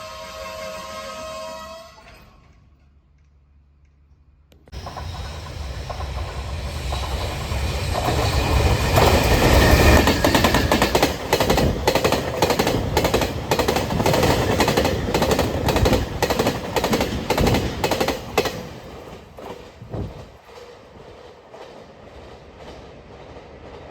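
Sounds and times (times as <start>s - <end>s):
freight train passing: 0.0s - 2.9s, 4.7s - 23.9s.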